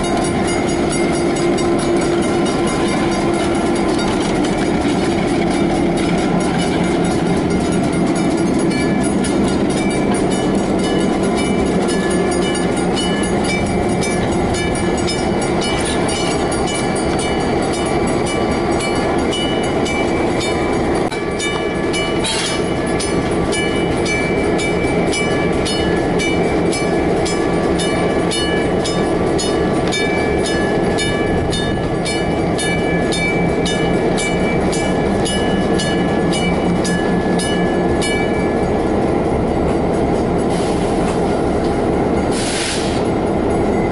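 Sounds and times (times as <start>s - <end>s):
bell ringing: 0.0s - 43.9s
diesel locomotive engines running: 0.0s - 43.9s.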